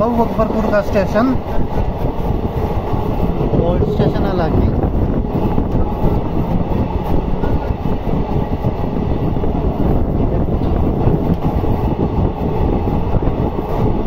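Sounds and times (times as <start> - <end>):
train wheels on rail: 0.0 - 14.0.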